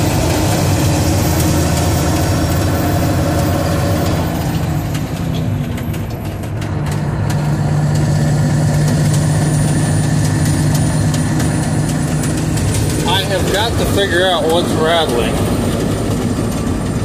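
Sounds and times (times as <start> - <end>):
road noise: 0.0 - 17.0
truck engine under load: 0.0 - 17.0.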